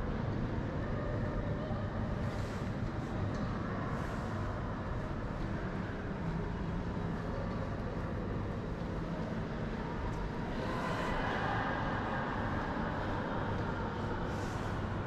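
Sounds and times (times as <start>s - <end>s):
industrial hall rumble and hiss: 0.0s - 15.0s.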